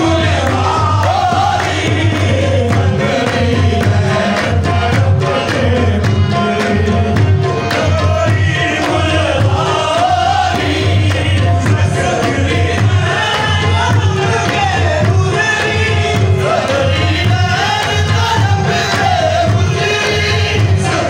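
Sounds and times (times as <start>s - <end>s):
group of voices singing: 0.0s - 21.0s
percussion beat: 0.0s - 21.0s.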